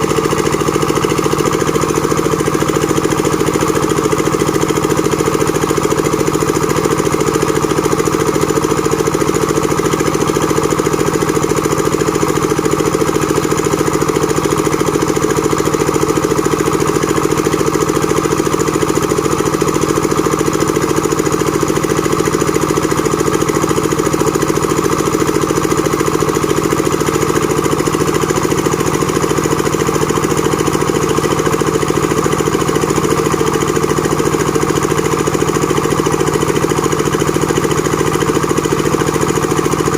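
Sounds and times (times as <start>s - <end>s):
machine engine running steadily: 0.0s - 39.9s.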